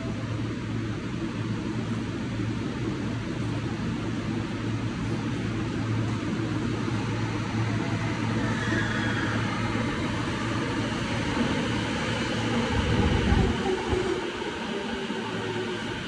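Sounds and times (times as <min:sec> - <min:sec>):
faint high whine: 0:00.0 - 0:16.0
train rumble: 0:00.0 - 0:16.0.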